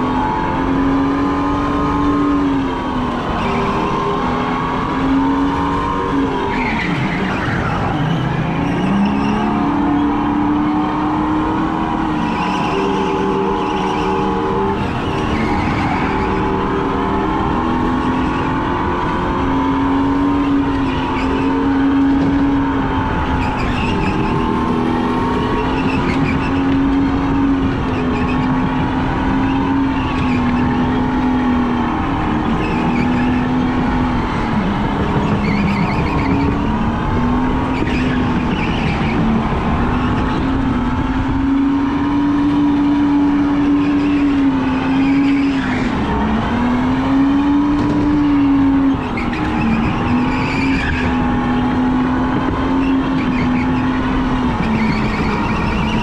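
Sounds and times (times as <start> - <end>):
tyre and track noise: 1.4 - 56.0.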